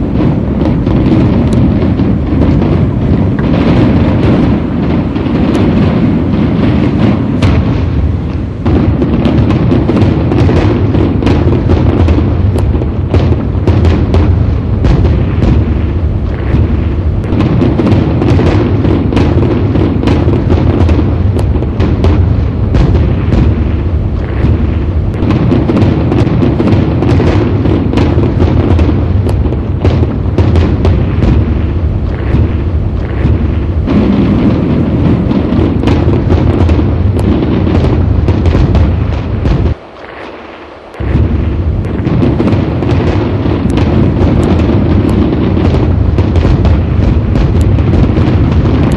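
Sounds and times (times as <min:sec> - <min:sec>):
heavy rumble: 0:00.0 - 0:40.0, 0:40.8 - 0:48.9
fireworks bangs and cracks: 0:00.0 - 0:48.9.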